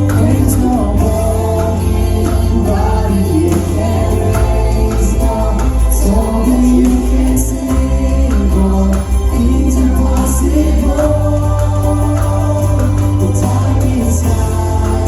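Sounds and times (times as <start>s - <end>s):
worship band music: 0.0s - 15.0s.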